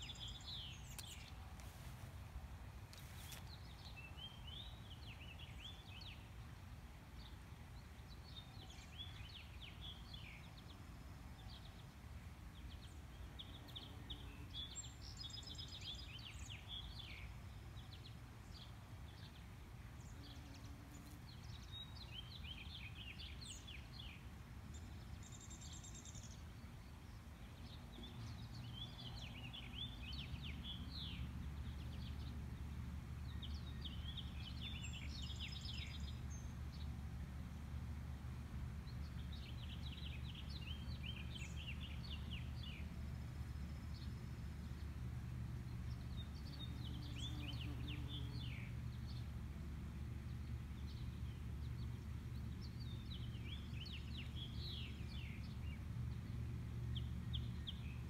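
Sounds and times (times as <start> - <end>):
songbirds singing: 0.0 - 2.0, 2.9 - 58.0.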